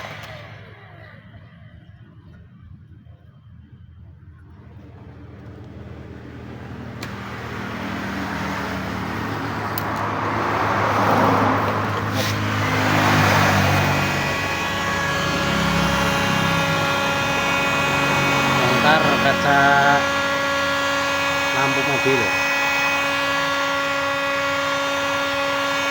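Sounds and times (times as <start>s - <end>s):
hot-air blower running: 0.0s - 1.2s, 4.5s - 25.9s
whine: 0.0s - 25.9s.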